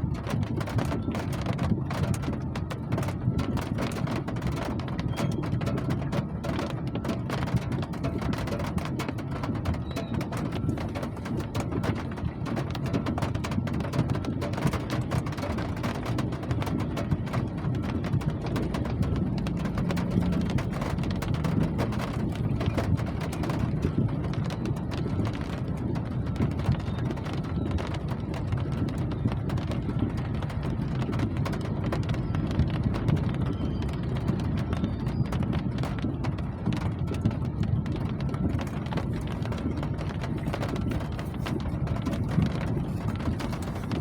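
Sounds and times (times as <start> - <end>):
rain drops tapping hard surface: 0.0 - 44.0
steady low rumble: 0.0 - 44.0.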